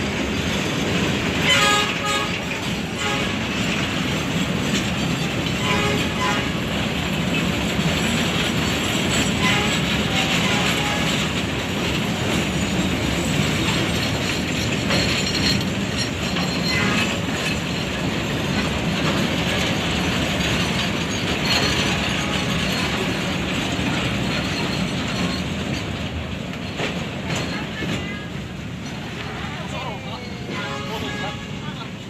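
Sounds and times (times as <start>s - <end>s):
freight train rolling on rails: 0.0s - 32.0s.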